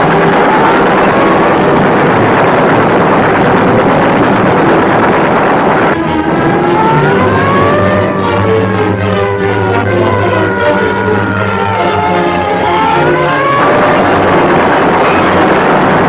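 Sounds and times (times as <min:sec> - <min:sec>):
loud steady rushing noise: 0:00.0 - 0:16.0
orchestral film music strings: 0:00.0 - 0:16.0.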